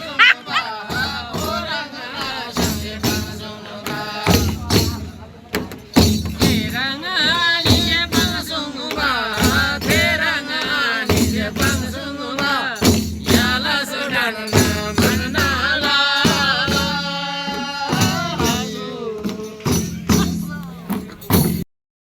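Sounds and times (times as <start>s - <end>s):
person singing folk melody: 0.0s - 5.5s, 6.4s - 21.2s
struck percussion beat: 0.0s - 21.6s.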